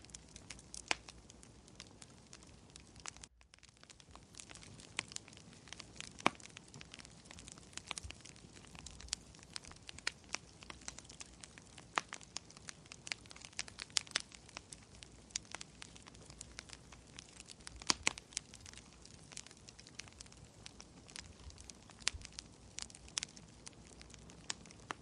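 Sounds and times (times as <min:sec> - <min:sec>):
faint steady hiss: 0:00.0 - 0:25.0
sharp pops and snaps: 0:00.0 - 0:25.0
wood fire crackling: 0:00.0 - 0:25.0.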